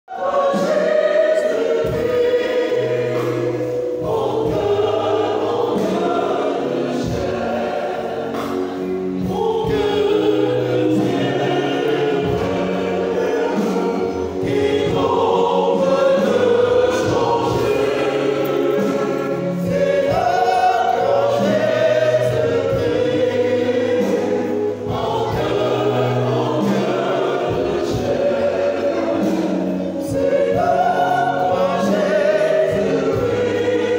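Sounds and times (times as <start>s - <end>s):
church choir singing: 0.1s - 33.9s.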